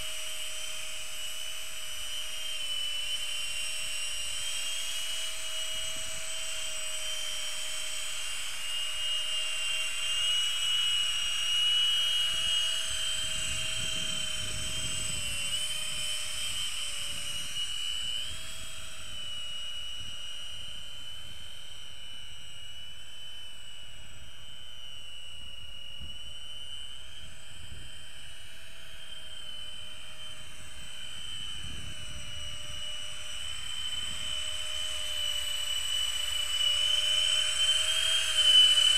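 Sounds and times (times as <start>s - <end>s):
drone fans whining: 0.0s - 38.9s.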